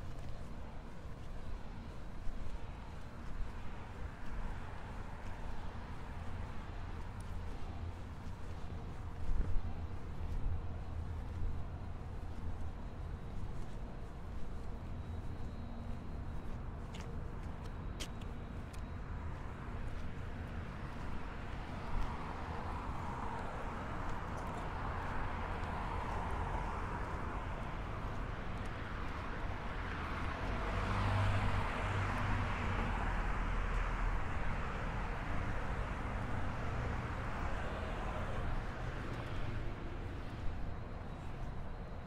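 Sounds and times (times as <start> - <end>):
city street traffic: 0.0 - 42.0.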